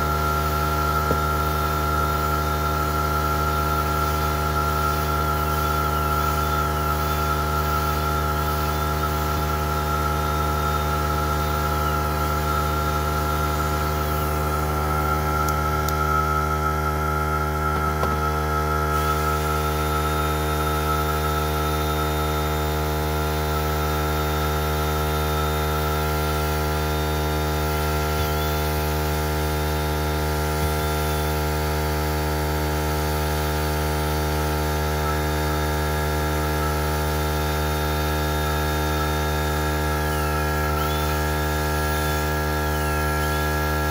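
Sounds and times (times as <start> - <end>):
electric drill mixing: 0.0 - 43.9.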